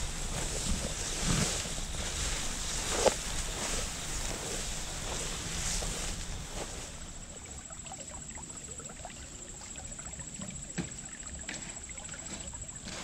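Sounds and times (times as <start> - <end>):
creek trickling over gravel: 0.0 - 13.0.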